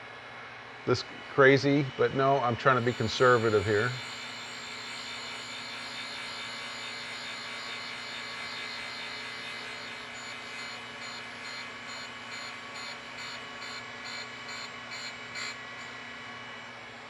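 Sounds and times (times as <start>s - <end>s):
grinder motor hum: 0.0s - 17.0s
grinding wheel contact hiss: 0.9s - 16.0s.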